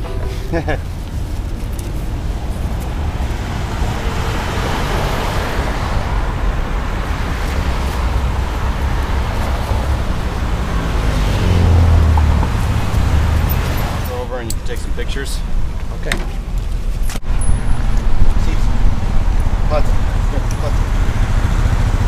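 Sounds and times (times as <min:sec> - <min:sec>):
steady low traffic rumble: 0:00.0 - 0:22.0
vehicle passing on street: 0:00.0 - 0:22.0.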